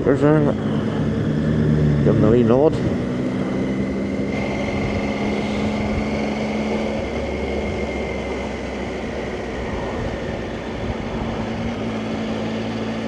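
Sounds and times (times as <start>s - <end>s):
motorcycle engine running: 0.0s - 13.0s
wind and road rush: 0.0s - 13.0s.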